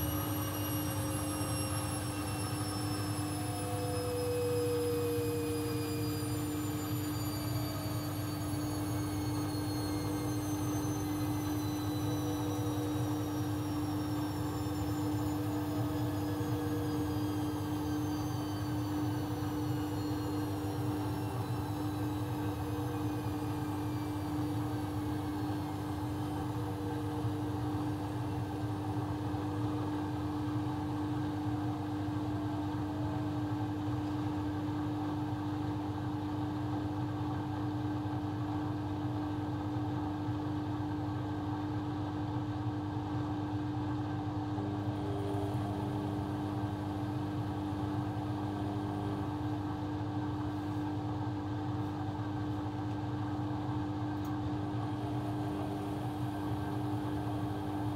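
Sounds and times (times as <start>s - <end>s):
laundry machine motor humming: 0.0s - 34.0s, 44.3s - 57.9s.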